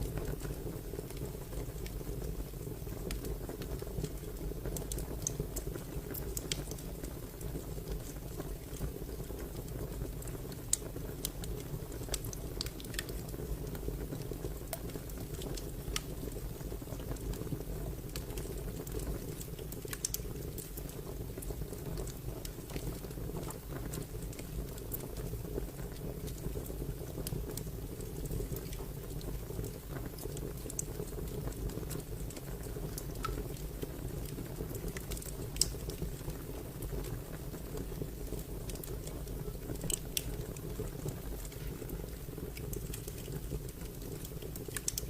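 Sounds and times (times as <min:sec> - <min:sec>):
fire popping and crackling: 0:00.0 - 0:45.0
low rumble of flame: 0:00.0 - 0:45.0.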